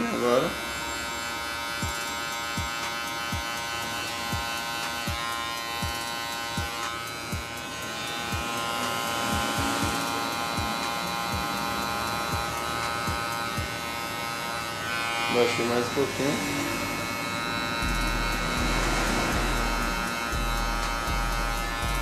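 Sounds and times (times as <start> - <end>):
hair clipper buzzing: 0.0 - 22.0.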